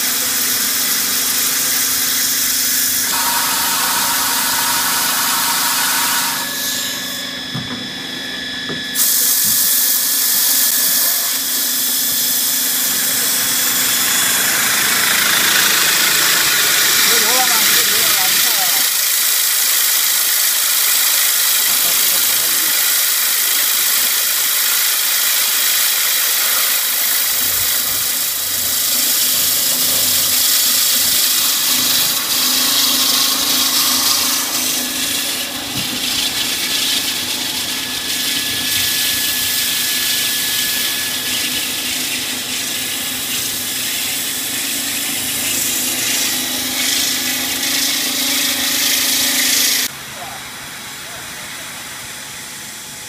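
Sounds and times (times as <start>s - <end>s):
machine drilling steel plate: 0.0s - 7.6s, 8.5s - 49.9s.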